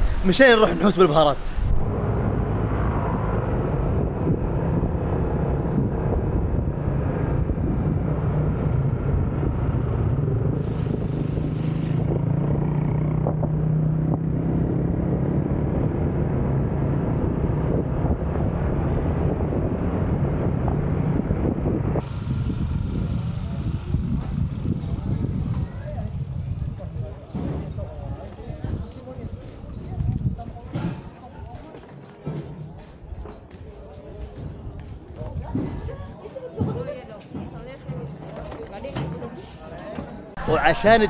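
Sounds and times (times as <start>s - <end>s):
road and wind noise: 0.0s - 39.6s, 40.2s - 41.0s.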